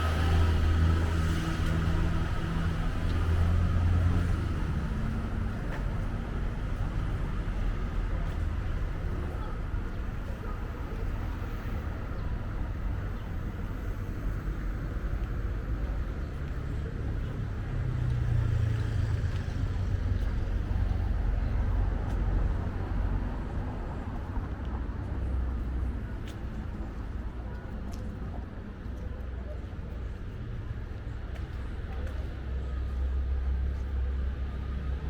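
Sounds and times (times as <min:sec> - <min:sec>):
traffic noise: 0:00.0 - 0:35.0.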